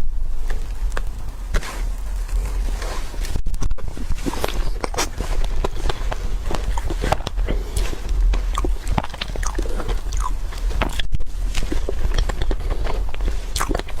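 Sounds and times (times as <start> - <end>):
low hum: 0.0 - 14.0
biting and chewing: 0.4 - 14.0
crisp clicks and crackles: 0.4 - 14.0.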